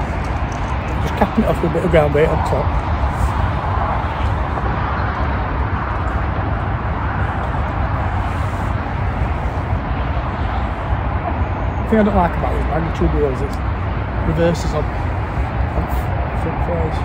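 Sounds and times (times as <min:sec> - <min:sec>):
rumble: 0:00.0 - 0:17.0.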